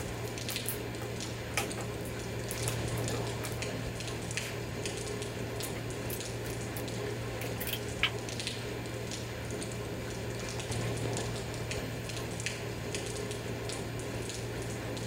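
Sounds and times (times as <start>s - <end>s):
constant low hum: 0.0s - 15.0s
small drips and ticks: 0.0s - 15.0s
steady watery noise: 0.0s - 15.0s.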